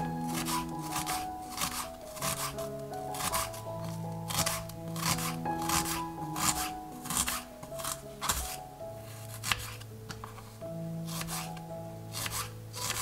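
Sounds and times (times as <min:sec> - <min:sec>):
background music: 0:00.0 - 0:13.0
knife slicing onion on board: 0:00.3 - 0:10.4, 0:11.1 - 0:13.0.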